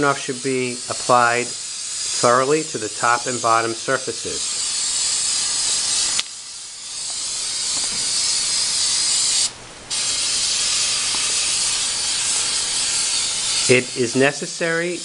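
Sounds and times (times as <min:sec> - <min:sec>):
aerosol can spraying hiss: 0:00.1 - 0:14.7.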